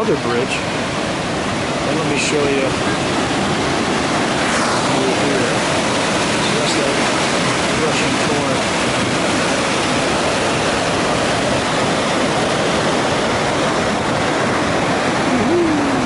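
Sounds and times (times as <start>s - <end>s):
river whitewater rushing: 0.0s - 16.0s.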